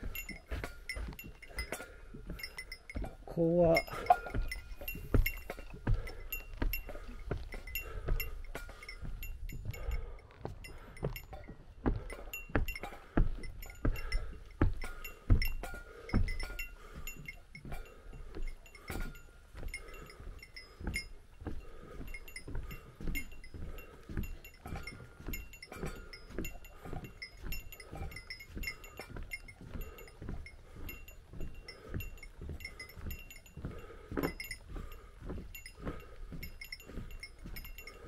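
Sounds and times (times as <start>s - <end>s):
footsteps on a trail: 0.0s - 38.0s
small bell jingling: 0.0s - 38.0s.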